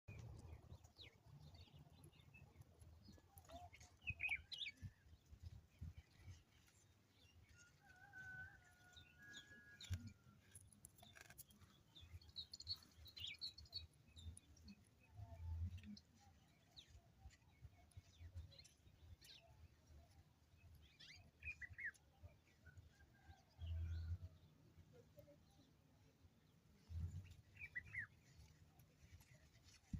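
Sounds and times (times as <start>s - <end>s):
faint birdsong: 0.1s - 29.9s.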